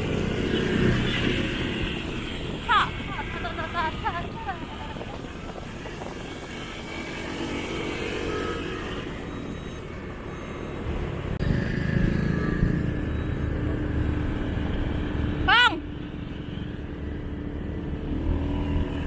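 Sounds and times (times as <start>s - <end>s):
motorcycle engine: 0.0s - 19.0s
road noise: 0.0s - 19.0s.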